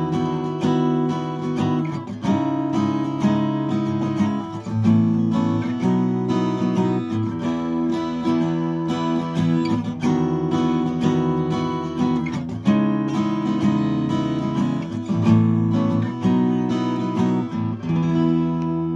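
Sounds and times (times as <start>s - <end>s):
acoustic guitar strummed chords: 0.0s - 18.9s.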